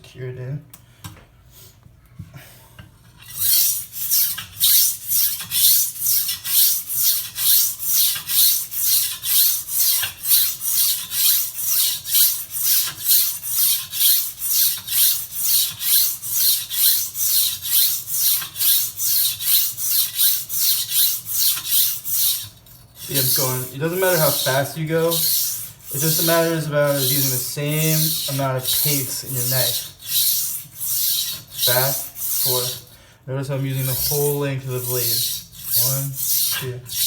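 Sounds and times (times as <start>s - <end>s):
knife scraping on whetstone: 3.2s - 33.0s, 33.7s - 37.0s.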